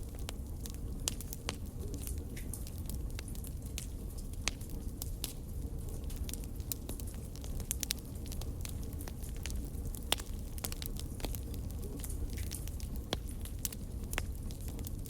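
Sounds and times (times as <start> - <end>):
fire crackling and popping: 0.0 - 15.0
low steady fire rumble: 0.0 - 15.0.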